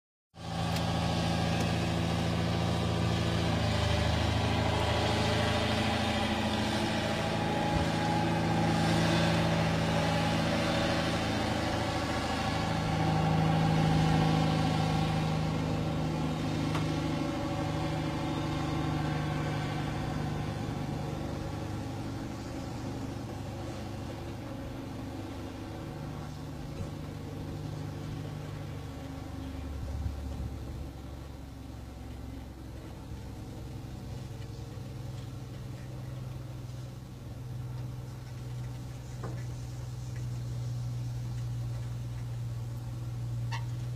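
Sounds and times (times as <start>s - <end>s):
diesel truck engine driving past: 0.4s - 43.9s
trailers rolling by: 0.4s - 43.9s.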